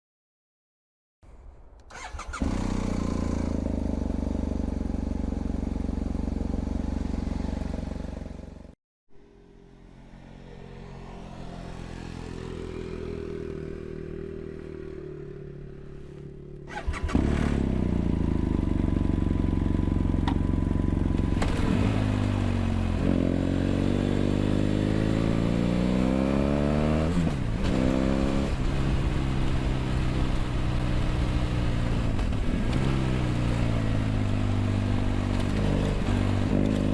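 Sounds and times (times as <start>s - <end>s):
motorcycle engine revving: 1.9s - 36.9s.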